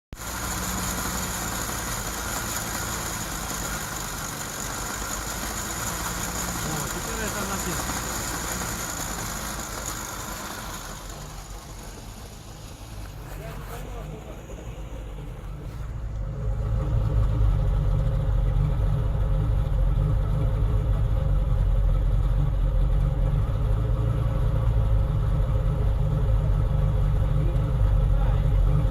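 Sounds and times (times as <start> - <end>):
car engine idling: 0.1 - 28.9
engine ticking and knocking: 0.1 - 28.9.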